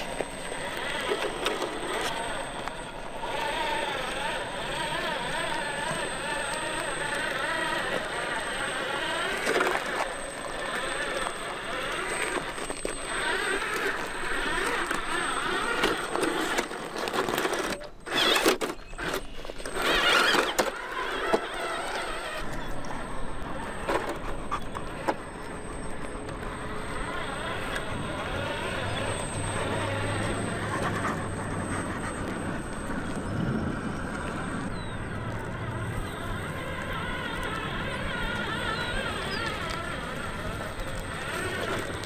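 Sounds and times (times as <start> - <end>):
electric motor whining: 0.0 - 42.0.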